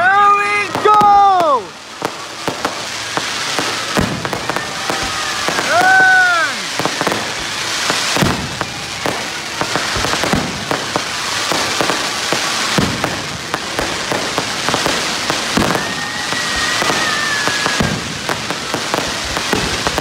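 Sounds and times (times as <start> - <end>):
fireworks bangs: 0.0 - 20.0
fireworks crackling hiss: 0.0 - 20.0.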